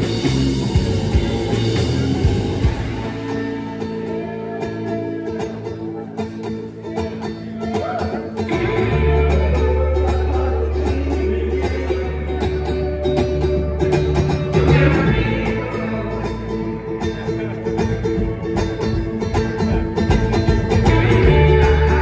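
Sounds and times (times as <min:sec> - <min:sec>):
fast banjo picking: 0:00.0 - 0:22.0
live band playing: 0:00.0 - 0:22.0.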